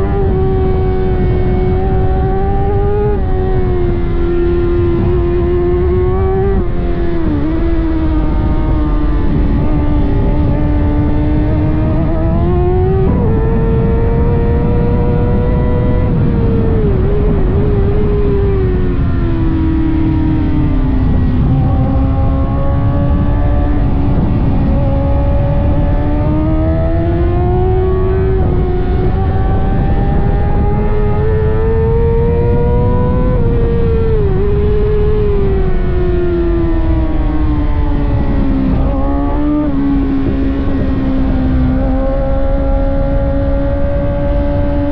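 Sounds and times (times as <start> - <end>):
heavy wind noise: 0.0 - 44.9
sport bike engine at speed: 0.0 - 44.9.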